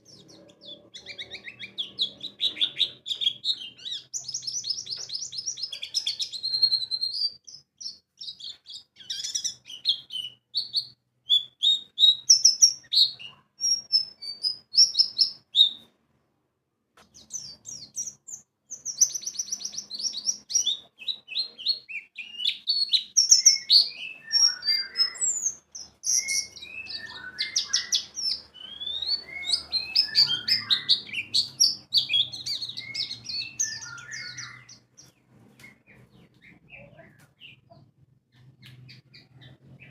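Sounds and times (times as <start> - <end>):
bird chirps and trills: 0.0 - 15.9, 17.1 - 39.9.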